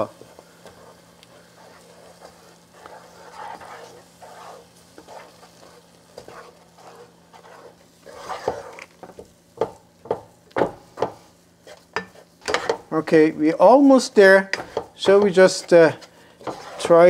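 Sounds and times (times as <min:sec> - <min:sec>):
wooden spoon scraping a pot: 0:00.0 - 0:09.2, 0:11.0 - 0:13.0, 0:14.4 - 0:17.0
light sizzle: 0:00.0 - 0:17.0.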